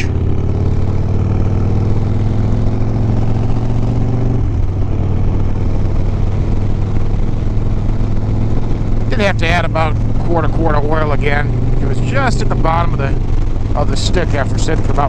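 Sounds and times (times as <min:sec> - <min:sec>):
motorcycle engine running at low revs: 0:00.0 - 0:15.0.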